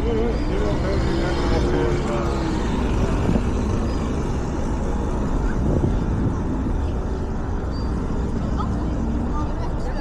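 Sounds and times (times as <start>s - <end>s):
city road traffic rumble: 0.0s - 10.0s.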